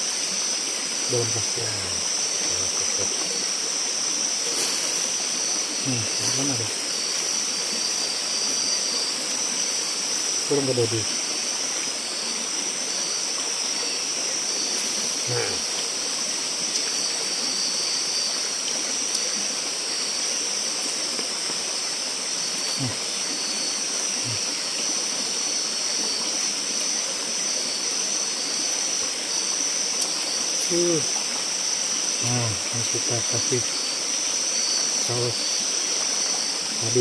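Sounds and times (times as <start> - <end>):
high-pitched insect chorus: 0.0 - 37.0
stream water flowing: 0.0 - 37.0.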